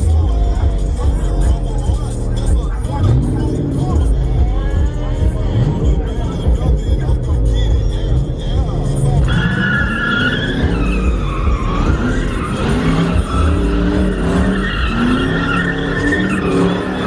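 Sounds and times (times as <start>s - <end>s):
car engine revving: 0.0s - 17.0s
tires squealing: 0.0s - 17.0s.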